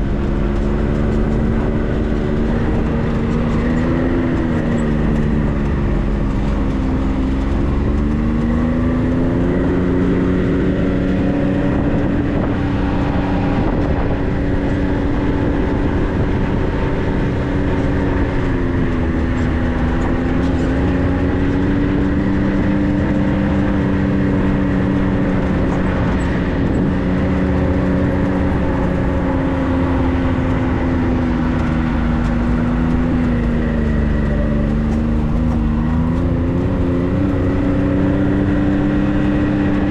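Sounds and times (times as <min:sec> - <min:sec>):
continuous low rumble: 0:00.0 - 0:39.9
vehicle engine running: 0:00.0 - 0:39.9.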